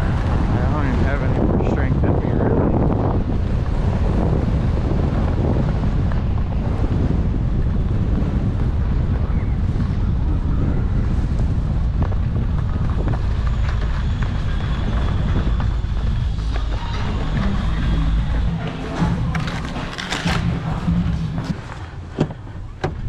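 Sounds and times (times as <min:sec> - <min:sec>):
skis running on packed snow: 0:00.0 - 0:22.2
wind buffeting microphone: 0:00.0 - 0:23.0.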